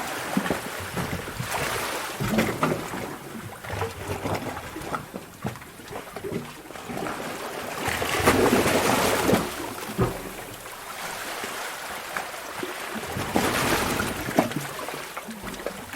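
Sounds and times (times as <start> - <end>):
sharp knocks and splashes: 0.0 - 15.9
waves sloshing in cave: 0.0 - 15.9.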